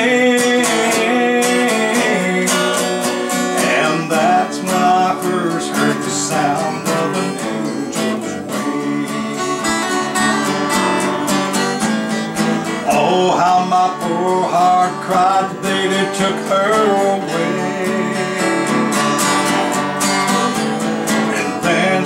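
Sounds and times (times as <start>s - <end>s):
person singing: 0.0s - 11.8s, 12.6s - 19.8s, 21.1s - 22.0s
acoustic guitars strumming: 0.0s - 22.0s.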